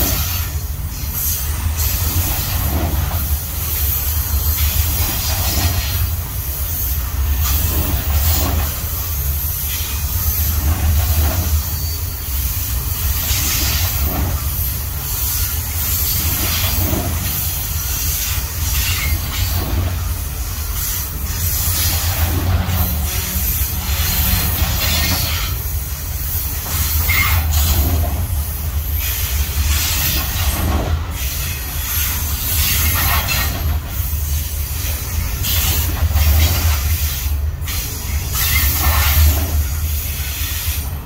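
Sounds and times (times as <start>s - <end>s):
high hiss from train wheels: 0.0s - 41.0s
train wheels rumbling on rails: 0.0s - 41.0s.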